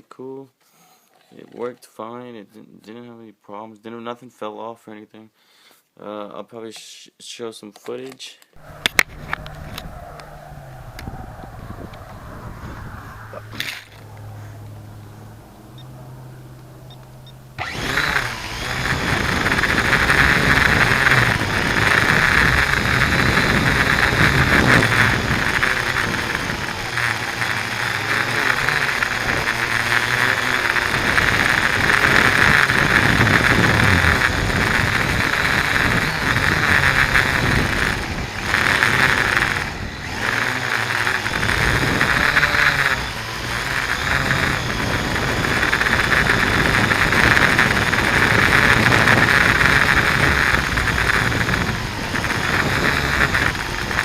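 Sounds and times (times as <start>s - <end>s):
drone propellers whirring: 8.6s - 54.0s
wind buffeting microphone: 8.6s - 54.0s.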